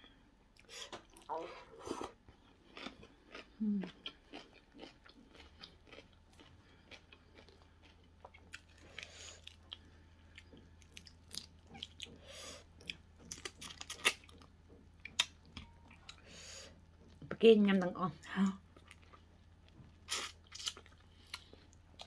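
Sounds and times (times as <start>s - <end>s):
chewing: 0.6s - 17.3s, 18.7s - 22.0s.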